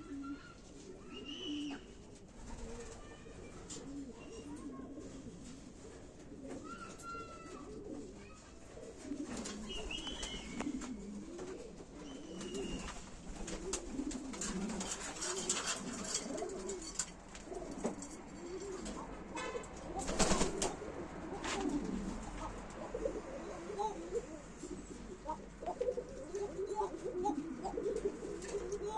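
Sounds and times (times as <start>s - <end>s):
pigeons cooing: 0.0s - 28.9s.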